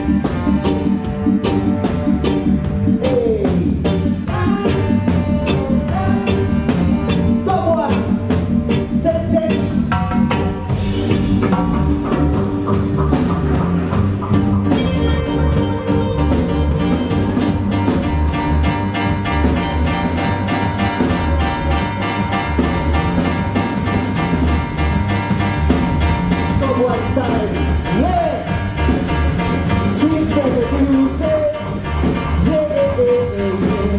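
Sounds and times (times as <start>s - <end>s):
live reggae band playing: 0.0s - 33.9s.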